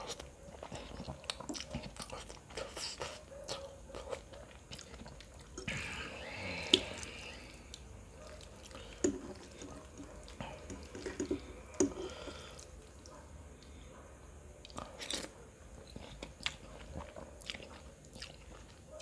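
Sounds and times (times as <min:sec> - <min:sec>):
wet chewing and swallowing: 0:00.0 - 0:13.8, 0:14.6 - 0:19.0.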